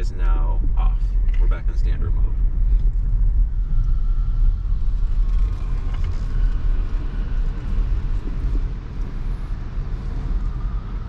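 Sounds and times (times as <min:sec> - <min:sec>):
faint high whine: 0:00.0 - 0:11.0
road and tyre noise: 0:00.0 - 0:11.0.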